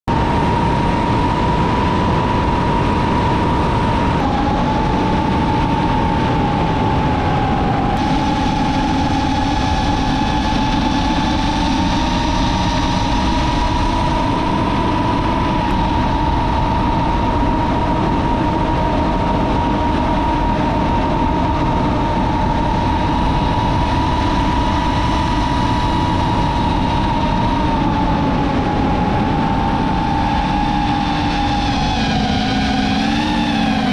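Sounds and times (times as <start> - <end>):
drone motors whining: 0.2 - 33.9.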